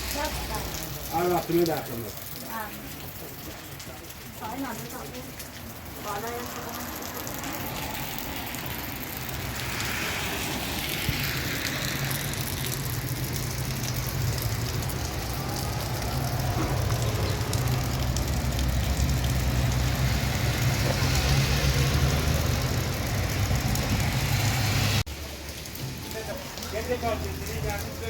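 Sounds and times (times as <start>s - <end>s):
steady rain hiss: 0.0s - 28.0s
vehicle engine rumble: 2.1s - 28.0s.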